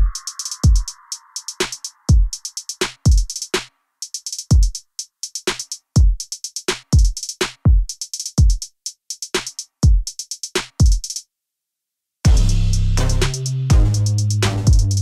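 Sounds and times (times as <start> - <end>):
drum machine beat: 0.0 - 11.2, 12.3 - 15.0.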